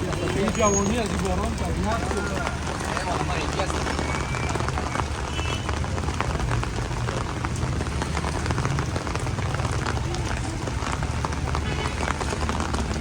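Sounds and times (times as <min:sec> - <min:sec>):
heavy rain ticking: 0:00.0 - 0:13.0.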